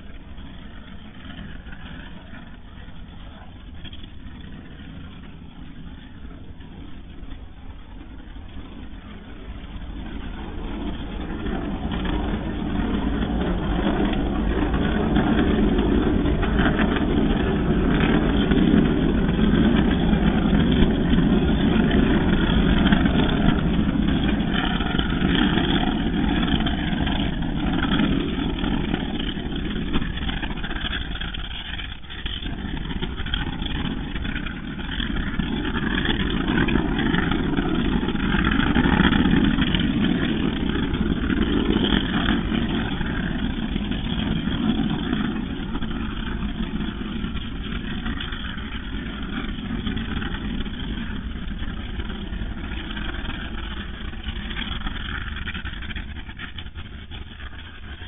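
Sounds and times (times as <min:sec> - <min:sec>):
sped-up volcanic eruption noise: 0:00.0 - 0:58.0.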